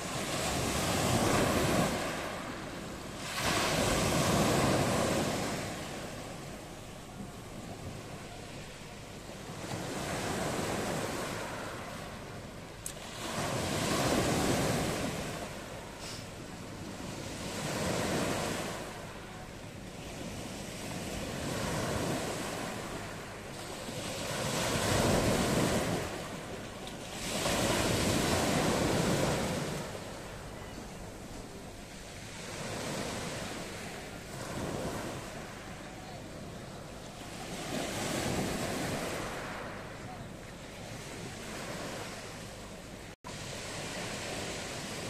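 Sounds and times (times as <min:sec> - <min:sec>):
surf washing over pebble beach: 0:00.0 - 0:08.6, 0:09.2 - 0:19.3, 0:19.9 - 0:42.4, 0:43.3 - 0:45.0.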